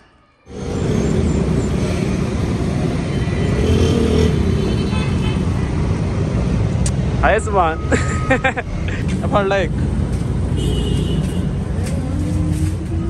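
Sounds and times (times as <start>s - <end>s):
road traffic rumble: 0.5s - 13.0s.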